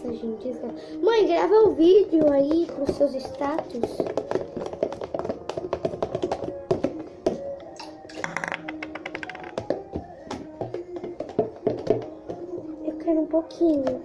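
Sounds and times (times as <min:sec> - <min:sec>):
music playing: 0:00.0 - 0:14.0.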